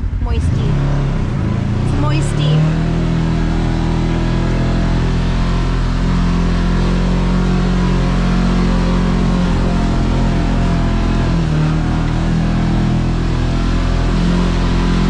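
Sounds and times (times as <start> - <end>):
vehicle engine running steadily: 0.0 - 15.0.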